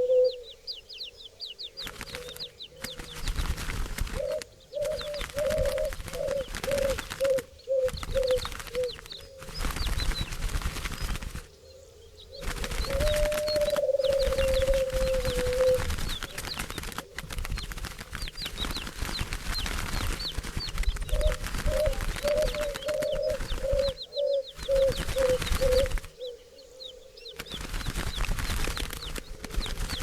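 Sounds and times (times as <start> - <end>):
birds chirping: 0.0 - 30.0
wings flapping: 1.8 - 11.5, 12.4 - 26.2, 27.3 - 30.0.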